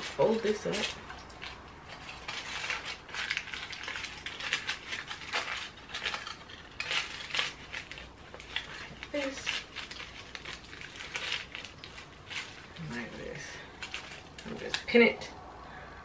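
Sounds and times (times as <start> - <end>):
aluminium foil crinkling: 0.0 - 15.2.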